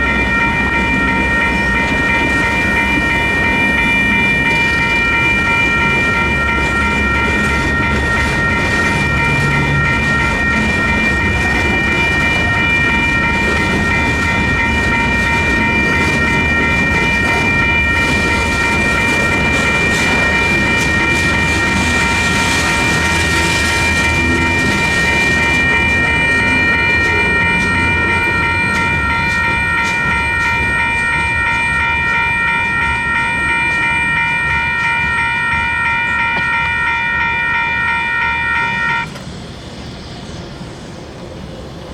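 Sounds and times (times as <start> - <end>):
freight train rolling on rails: 0.0 - 41.9
railroad crossing bells ringing: 0.0 - 41.9.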